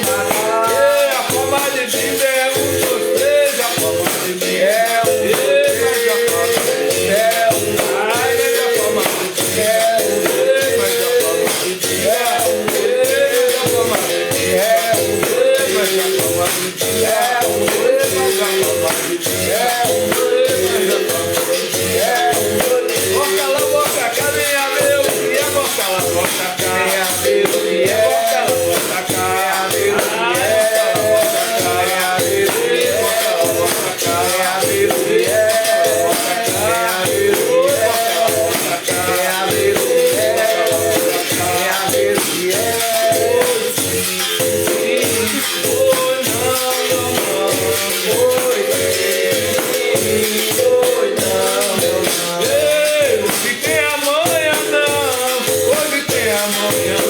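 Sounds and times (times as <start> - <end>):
berimbaus and shakers playing: 0.0 - 57.0
voices singing: 0.0 - 57.0.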